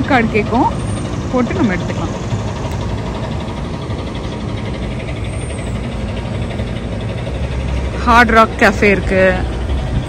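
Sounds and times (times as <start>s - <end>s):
engine idling hum: 0.0s - 10.0s
street background noise: 0.0s - 10.0s.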